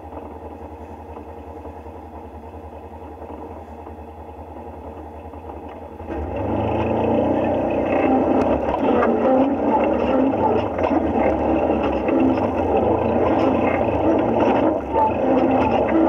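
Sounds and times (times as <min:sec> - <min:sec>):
utility vehicle engine revving: 0:00.0 - 0:16.0.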